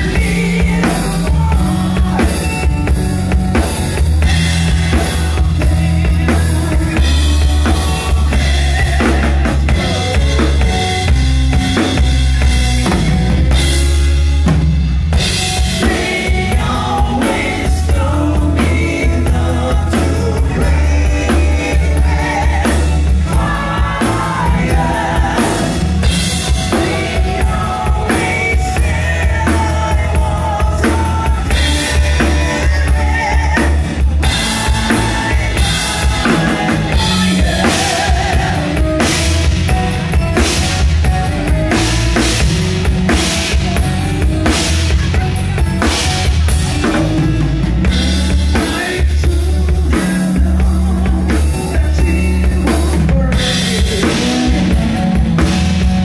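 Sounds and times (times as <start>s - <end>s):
bass guitar: 0.0s - 56.0s
drum kit: 0.0s - 56.0s.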